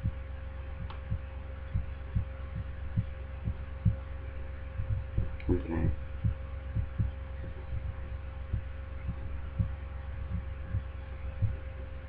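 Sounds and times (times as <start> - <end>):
soft low thumps: 0.0 - 12.0
steady low hum: 0.0 - 12.0.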